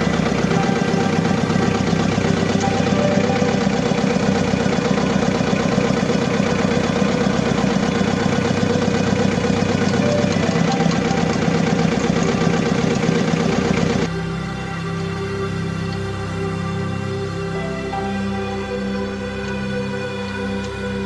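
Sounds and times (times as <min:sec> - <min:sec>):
diesel engine idling unevenly: 0:00.0 - 0:21.0.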